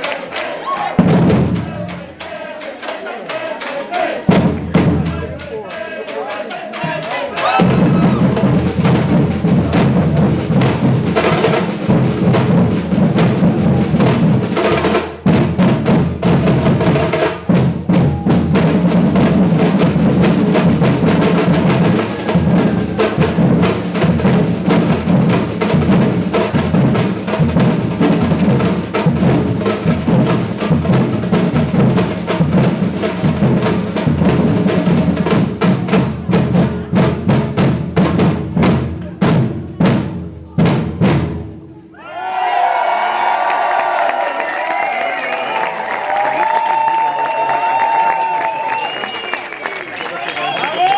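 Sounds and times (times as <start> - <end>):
percussion ensemble drumming: 0.0 - 41.7, 43.2 - 50.9.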